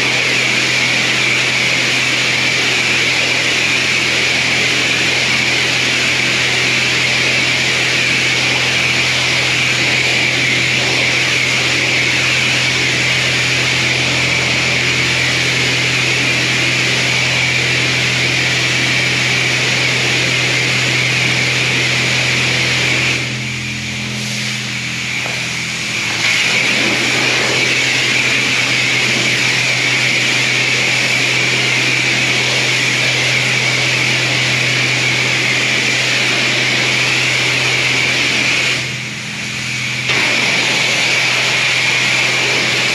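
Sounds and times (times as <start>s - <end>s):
pressure washer spraying water: 0.0s - 42.9s
pump hum: 0.0s - 42.9s.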